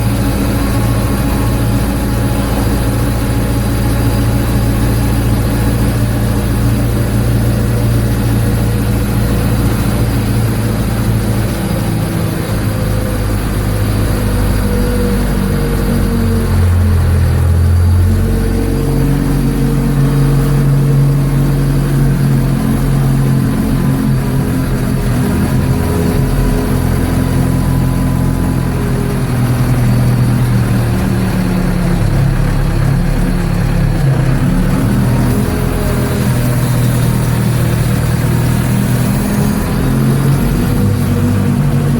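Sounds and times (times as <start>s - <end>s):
backhoe diesel engine running: 0.0s - 41.9s.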